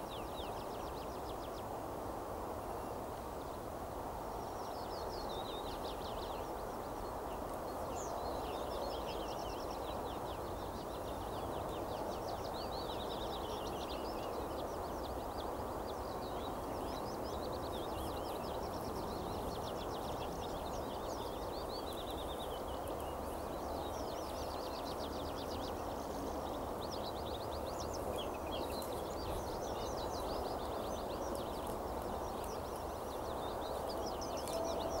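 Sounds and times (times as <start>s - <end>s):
songbirds trilling and chirping: 0.0s - 35.0s.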